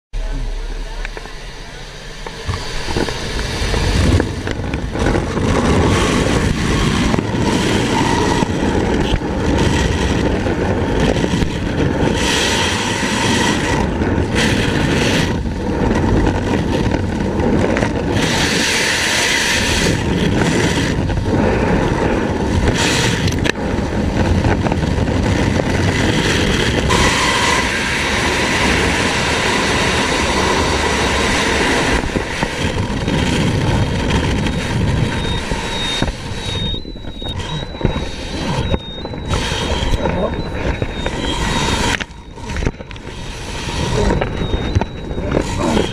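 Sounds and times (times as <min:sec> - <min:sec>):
wind buffeting microphone: 0:00.2 - 0:45.9.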